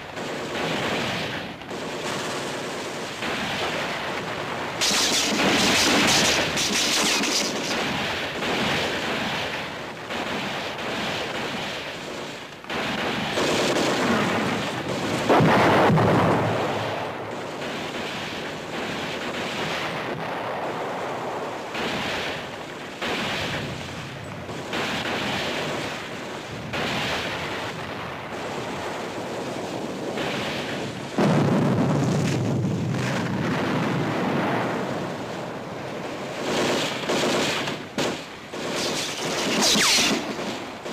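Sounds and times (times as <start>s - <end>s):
rifle and machine-gun fire: 0.0s - 35.1s, 35.8s - 40.9s
artillery shells exploding: 0.0s - 40.9s.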